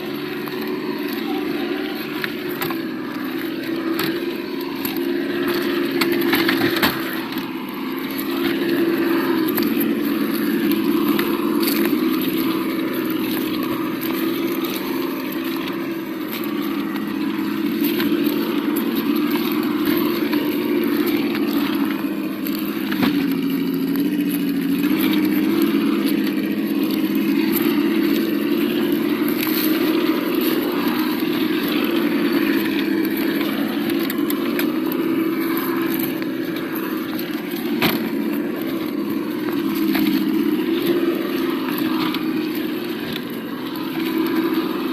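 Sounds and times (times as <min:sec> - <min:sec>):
simulated engine through small speaker: 0:00.0 - 0:44.9.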